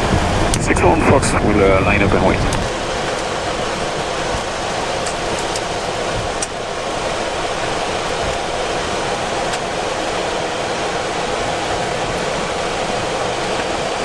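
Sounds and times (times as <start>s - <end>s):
air conditioning running: 0.0s - 14.0s
jet engines idling: 0.0s - 14.0s.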